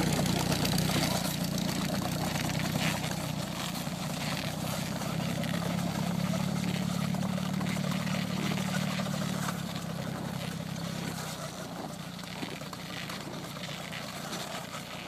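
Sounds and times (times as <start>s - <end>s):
snowcat engine driving away: 0.0s - 15.0s.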